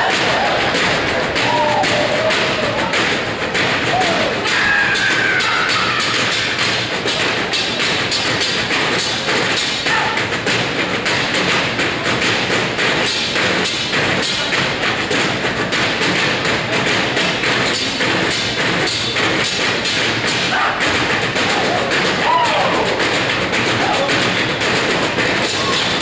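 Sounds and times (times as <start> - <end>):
percussion ensemble drumming: 0.0 - 26.0.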